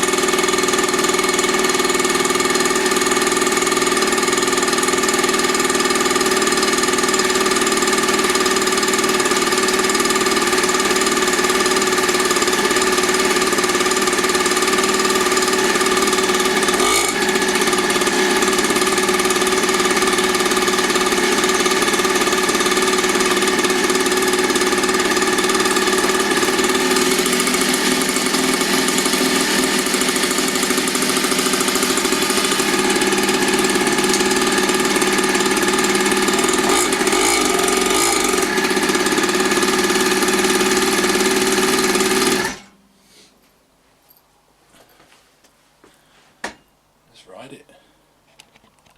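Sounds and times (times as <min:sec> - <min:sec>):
dirt bike engine idling: 0:00.0 - 0:42.8.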